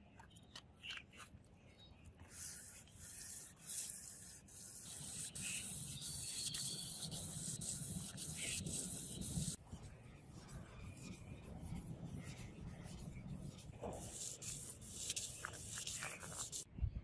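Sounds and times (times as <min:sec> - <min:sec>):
sanding steel blade: 0:02.5 - 0:16.7.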